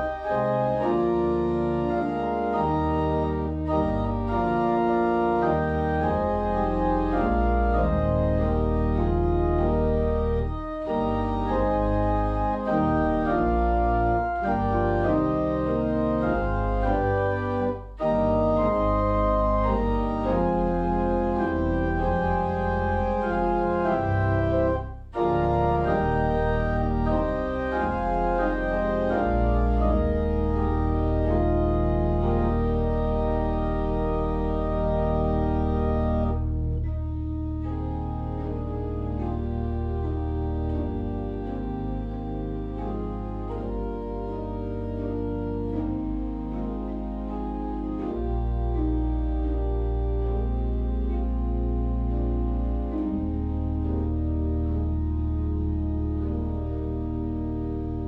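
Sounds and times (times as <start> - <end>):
church organ playing sustained chords: 0.0 - 58.0.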